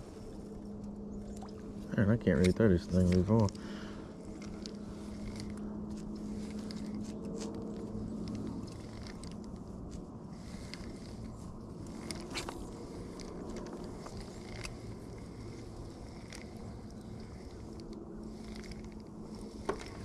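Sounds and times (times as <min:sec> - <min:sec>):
steady low hum: 0:00.0 - 0:20.0
fishing reel whirring and clicking: 0:00.3 - 0:20.0.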